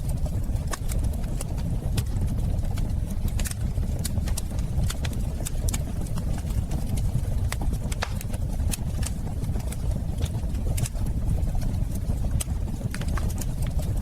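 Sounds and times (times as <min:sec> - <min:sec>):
fire crackling in a fireplace: 0:00.0 - 0:14.0.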